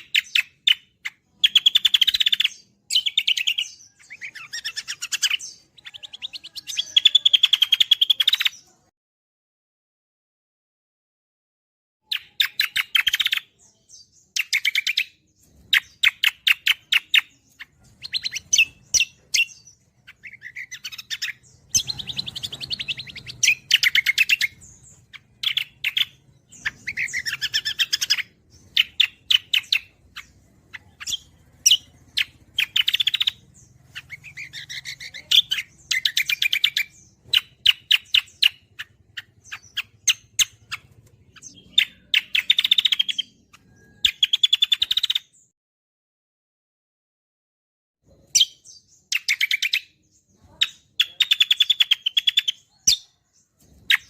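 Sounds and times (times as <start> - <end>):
songbird trilled chattering: 0.0 - 8.7, 12.1 - 45.4, 48.2 - 54.0.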